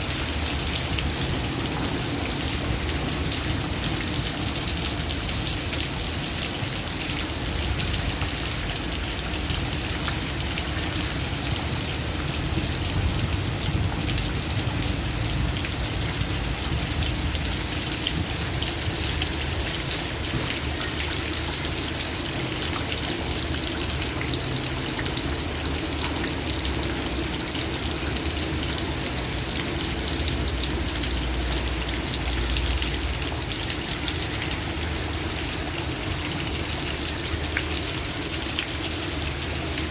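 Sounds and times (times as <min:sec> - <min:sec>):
heavy rain on hard surfaces: 0:00.0 - 0:39.9
low rumble of wind: 0:00.0 - 0:39.9.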